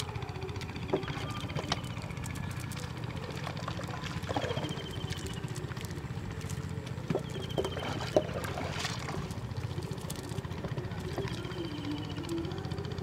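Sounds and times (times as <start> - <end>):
fish slapping and net rustling: 0.0 - 11.6
low engine hum: 0.0 - 13.0.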